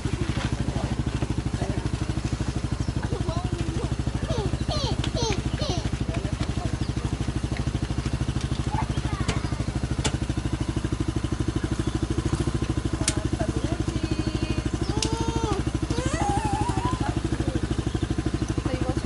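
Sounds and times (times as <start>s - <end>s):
go-kart engine idling: 0.0s - 19.0s.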